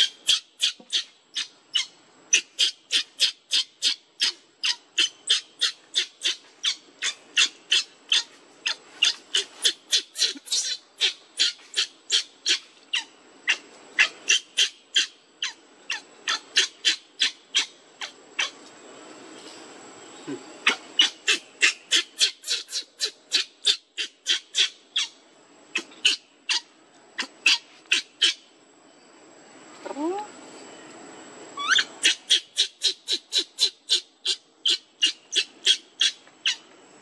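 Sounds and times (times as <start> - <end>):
baby monkey squealing: 0.0 - 18.6, 20.6 - 28.4, 31.6 - 36.6.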